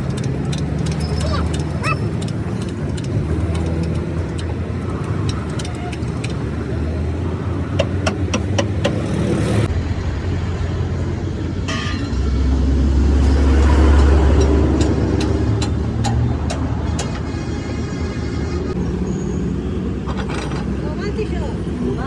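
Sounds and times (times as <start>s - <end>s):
vehicle engine rumbling past: 0.0s - 21.8s
traffic drone: 0.0s - 22.0s.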